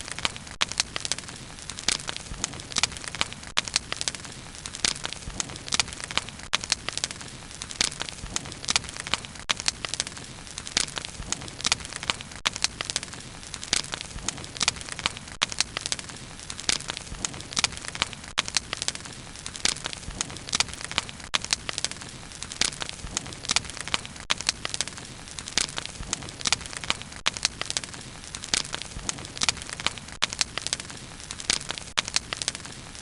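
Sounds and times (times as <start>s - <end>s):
bonfire crackles and pops: 0.0s - 33.0s.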